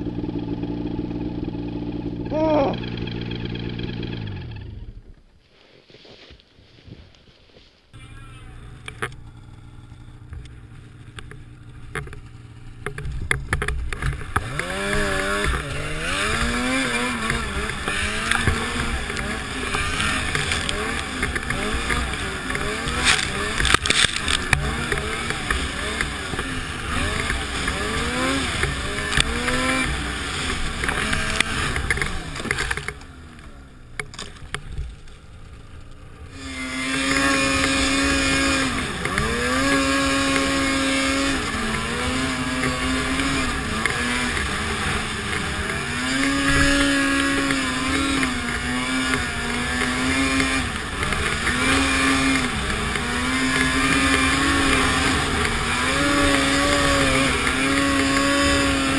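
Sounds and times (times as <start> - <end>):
snowmobile engine revving: 0.0 - 5.1, 8.0 - 58.9.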